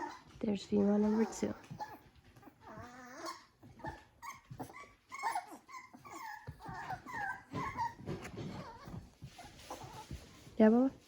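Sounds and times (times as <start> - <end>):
puppy whining: 0.0 - 10.6.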